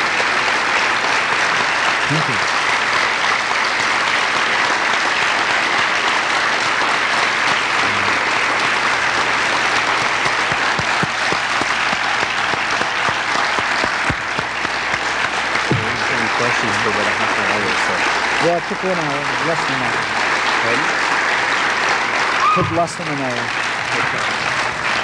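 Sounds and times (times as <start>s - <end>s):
audience applauding: 0.0s - 25.0s
close hand claps: 0.0s - 25.0s.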